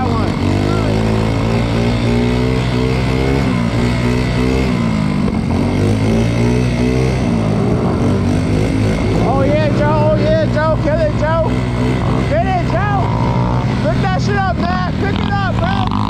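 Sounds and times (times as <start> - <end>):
moped engine revving: 0.0 - 16.0.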